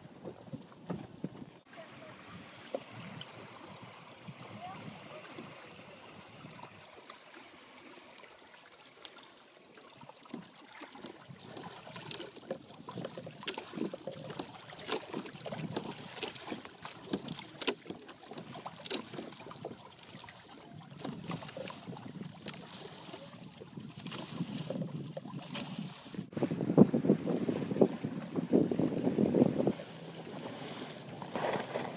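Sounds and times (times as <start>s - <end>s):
water lapping against hulls: 0.0s - 31.9s
water slapping: 0.0s - 31.9s.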